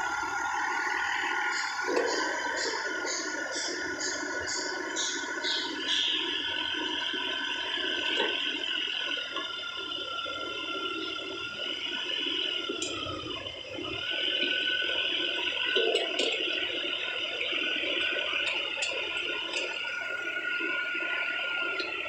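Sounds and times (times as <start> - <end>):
mini excavator whine: 0.0 - 22.0.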